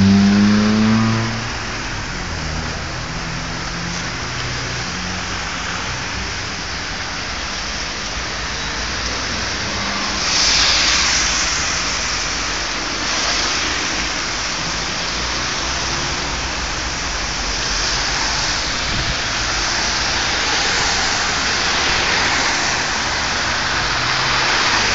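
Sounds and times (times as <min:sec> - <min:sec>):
car tyres on wet road: 0:00.0 - 0:24.9
rain hissing: 0:00.2 - 0:24.9.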